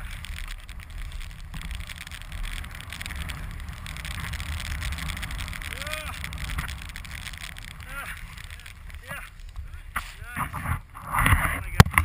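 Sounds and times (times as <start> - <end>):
skis hissing through powder snow: 0.0 - 11.8
wind rumble on microphone: 0.0 - 12.0.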